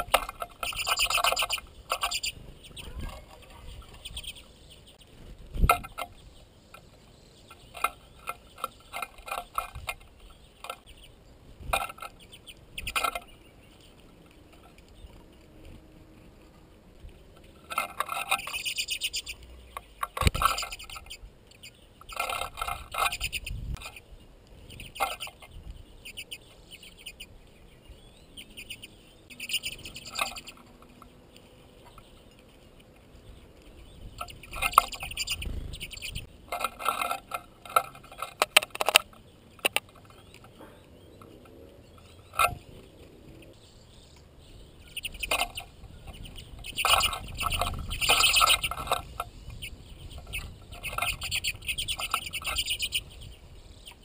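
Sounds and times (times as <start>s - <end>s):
finches chattering: 0.0s - 15.4s, 17.3s - 54.0s.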